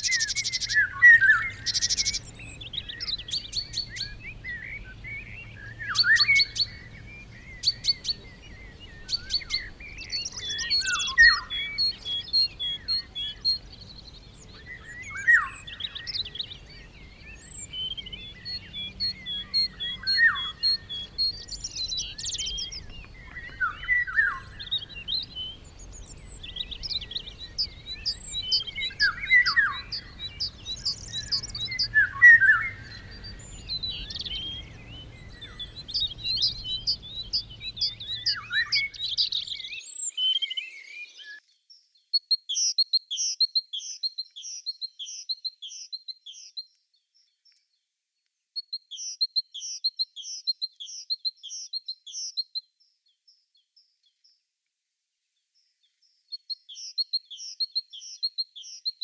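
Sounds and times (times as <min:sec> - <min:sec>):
songbirds singing and chirping: 0:00.0 - 0:54.6, 0:55.2 - 0:59.0.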